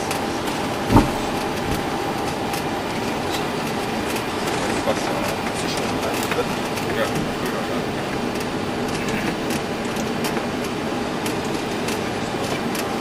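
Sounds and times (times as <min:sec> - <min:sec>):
airliner running noise in cockpit: 0:00.0 - 0:13.0.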